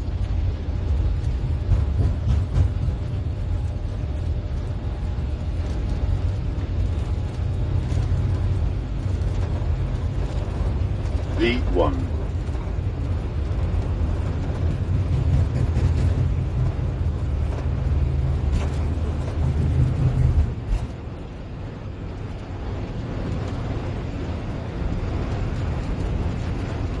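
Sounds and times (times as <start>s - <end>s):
wheels rumbling on runway: 0.0s - 27.0s.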